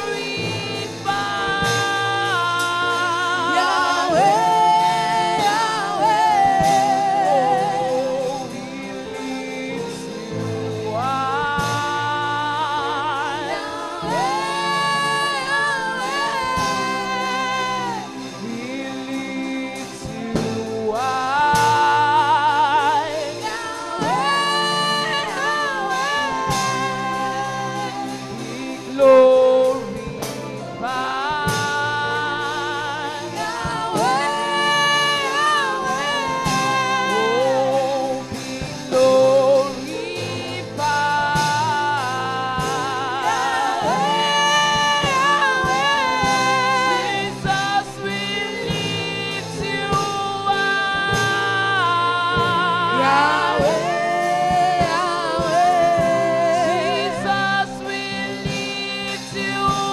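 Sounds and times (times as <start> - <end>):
held accompaniment notes: 0.0 - 59.9
woman singing gospel song: 0.0 - 59.9.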